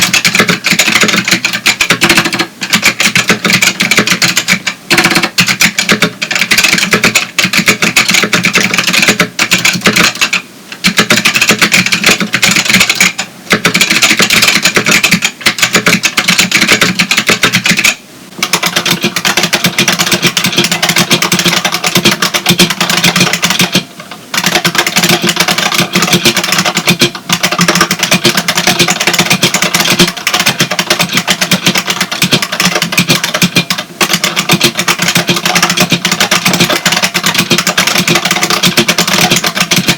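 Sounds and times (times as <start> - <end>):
clicky keyboard typing: 0.0 - 39.9
keyboard keys clacking: 0.0 - 39.9.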